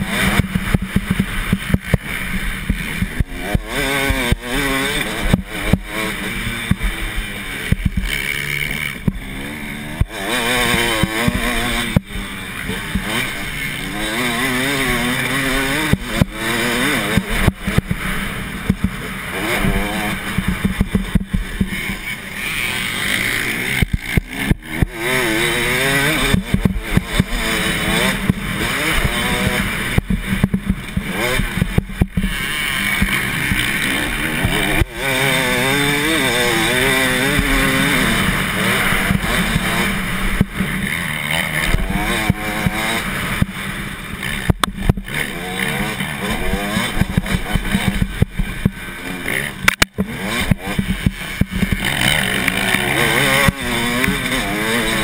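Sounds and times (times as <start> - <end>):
knocks from rough track: 0.0 - 22.2, 22.8 - 43.6, 44.2 - 55.0
motocross bike engine revving: 0.0 - 55.0.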